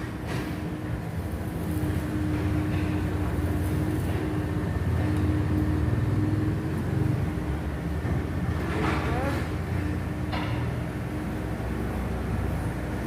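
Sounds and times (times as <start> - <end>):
machine engine droning: 0.0 - 13.0.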